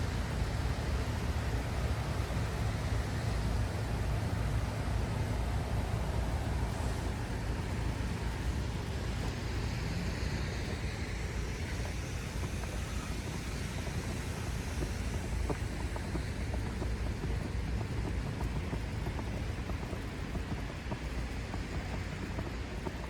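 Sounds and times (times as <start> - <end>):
low rumble of city traffic: 0.0 - 23.0.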